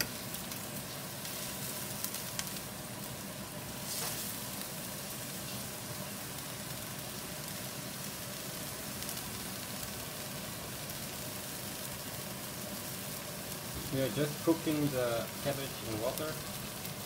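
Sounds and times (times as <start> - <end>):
cabbage sizzling in a wok: 0.0 - 17.0.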